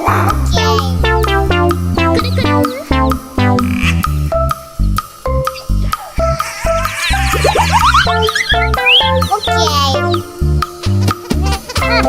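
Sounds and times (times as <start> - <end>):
bouncy plucked bass music: 0.0 - 12.0.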